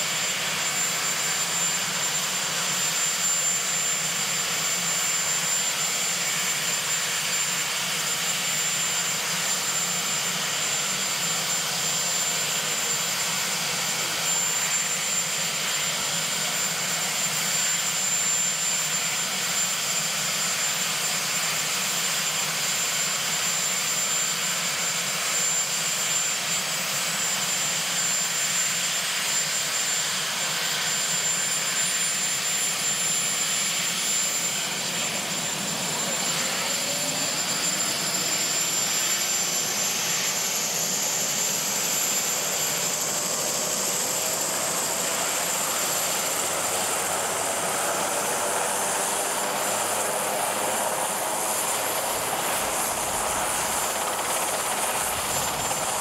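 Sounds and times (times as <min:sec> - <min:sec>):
helicopter turbine engines running: 0:00.0 - 0:56.0.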